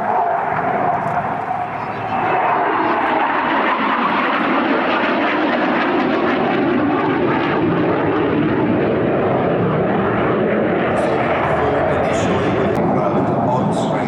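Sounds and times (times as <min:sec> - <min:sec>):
jet fighter roar: 0:00.0 - 0:14.0.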